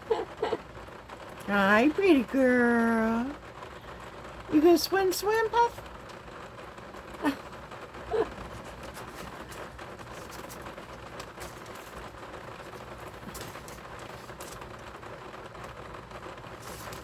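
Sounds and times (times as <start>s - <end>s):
rain on a window: 0.0s - 17.0s
raindrops ticking: 0.0s - 17.0s.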